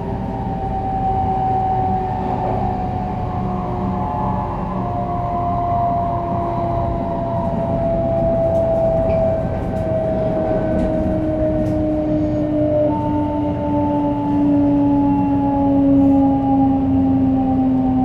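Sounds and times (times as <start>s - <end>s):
train car rumble: 0.0s - 18.0s
train inverter whine: 0.0s - 18.0s.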